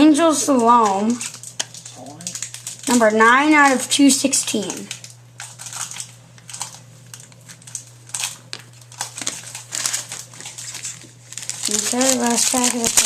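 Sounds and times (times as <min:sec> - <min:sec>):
low electrical hum: 0:00.0 - 0:13.0
wrapper crinkling: 0:00.4 - 0:03.9, 0:04.6 - 0:13.0.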